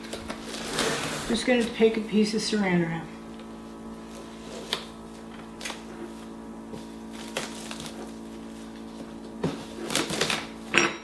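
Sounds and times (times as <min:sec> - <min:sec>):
plastic wrap crinkling: 0:00.0 - 0:01.9, 0:03.4 - 0:10.6
steady low hum: 0:00.0 - 0:11.0.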